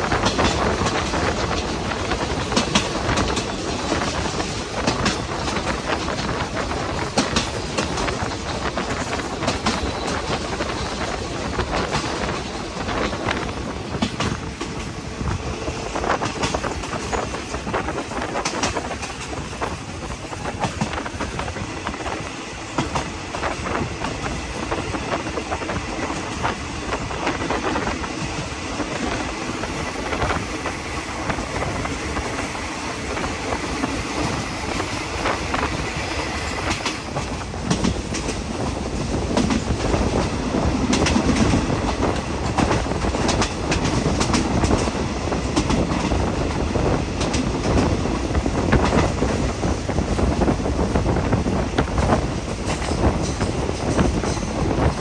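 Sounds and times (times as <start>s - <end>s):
train rumble: 0.0s - 55.0s
train wheels clattering over rail joints: 0.0s - 55.0s.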